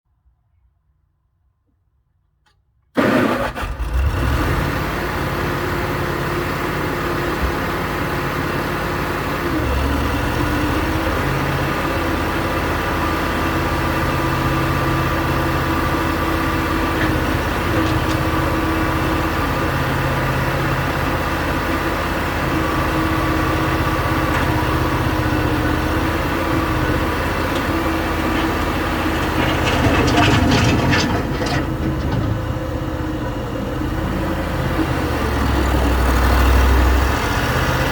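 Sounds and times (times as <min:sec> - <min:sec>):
loader engine starting and idling: 0:02.9 - 0:37.9.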